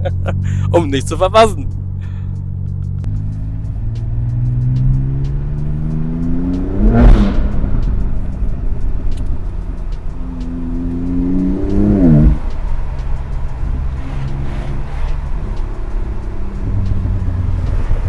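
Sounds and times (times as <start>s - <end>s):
car engine accelerating hard: 0.0s - 18.0s
exhaust crack: 0.0s - 18.0s.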